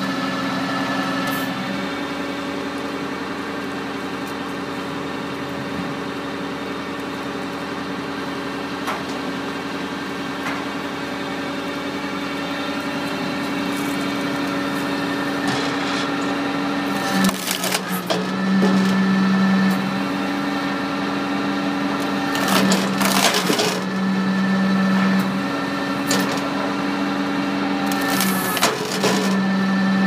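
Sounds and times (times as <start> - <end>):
firewood processor engine running: 0.0 - 30.0.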